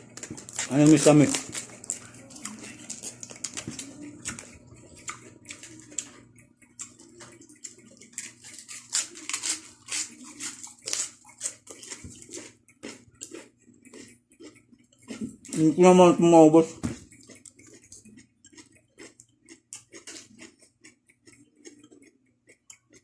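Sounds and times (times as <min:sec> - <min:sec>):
chewing raw cabbage: 0:00.0 - 0:16.2, 0:17.0 - 0:23.0.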